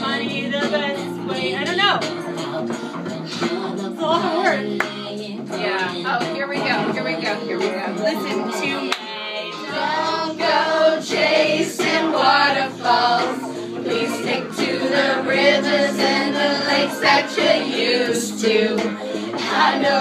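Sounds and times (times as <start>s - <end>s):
recorded pop music: 0.0s - 20.0s
group of people singing along: 2.1s - 20.0s.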